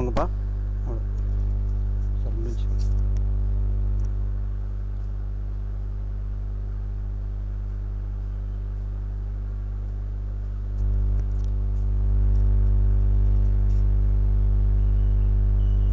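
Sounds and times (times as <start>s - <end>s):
low electrical hum: 0.0s - 15.9s.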